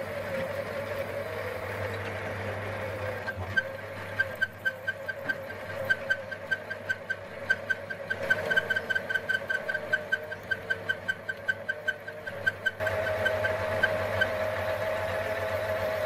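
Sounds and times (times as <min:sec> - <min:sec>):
metal lathe drilling: 0:00.0 - 0:16.0.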